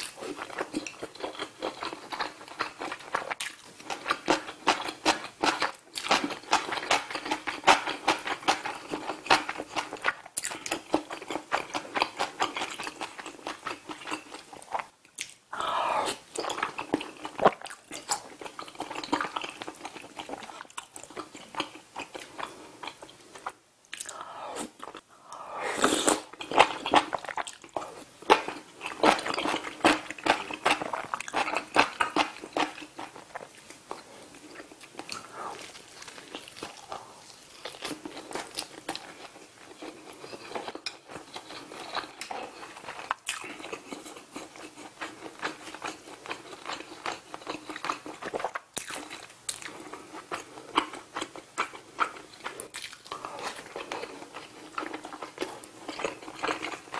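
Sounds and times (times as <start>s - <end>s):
wet chewing: 0.0s - 56.9s.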